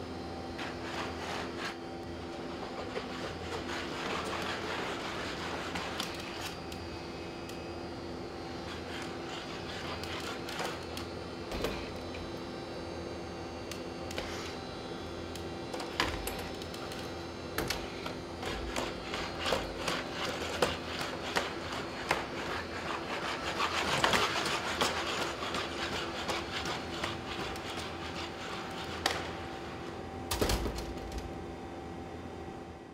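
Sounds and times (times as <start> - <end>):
steady electric hum: 0.0 - 32.9.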